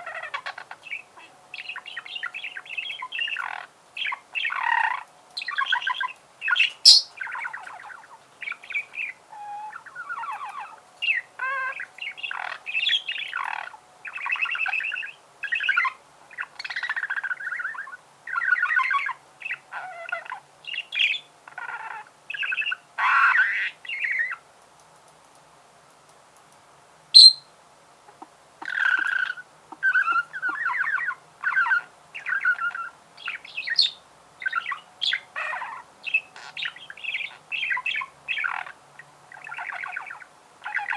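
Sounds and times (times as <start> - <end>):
budgerigar chattering: 0.0 - 24.4, 27.2 - 27.4, 28.6 - 40.9.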